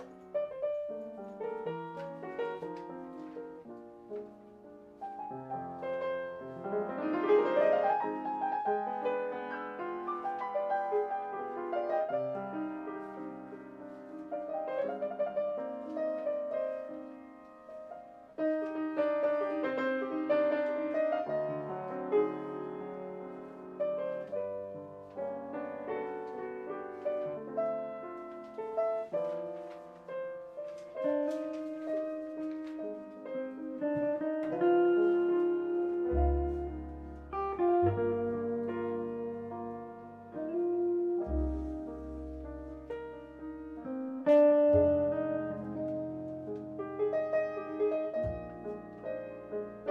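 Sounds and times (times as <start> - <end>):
slow jazz piano ballad: 0.0 - 49.9.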